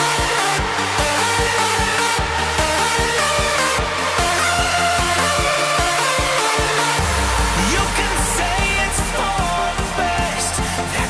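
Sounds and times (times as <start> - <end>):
person singing: 0.0 - 11.0
steady pop beat: 0.0 - 11.0.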